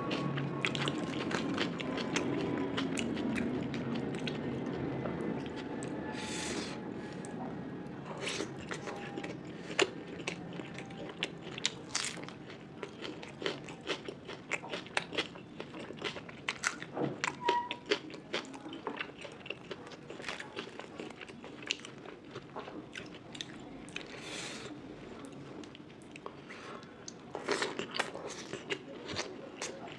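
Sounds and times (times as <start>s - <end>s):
person chewing food: 0.1s - 4.7s, 8.2s - 24.8s, 25.6s - 29.9s.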